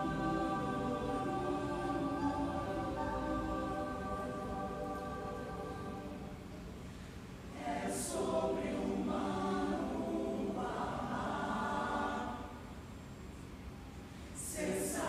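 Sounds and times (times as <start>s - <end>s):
mixed choir singing in harmony: 0.0s - 6.8s, 7.4s - 12.9s, 14.4s - 15.0s.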